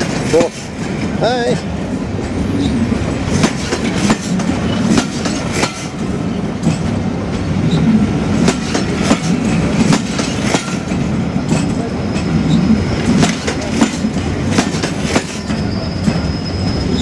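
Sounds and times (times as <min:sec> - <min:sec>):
train coaches rumbling past: 0:00.0 - 0:17.0
wheels clicking on track: 0:00.0 - 0:17.0.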